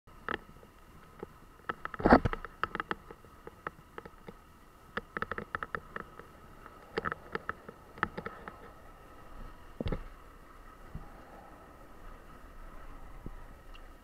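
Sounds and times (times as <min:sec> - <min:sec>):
faint steady whine: 0:00.1 - 0:14.0.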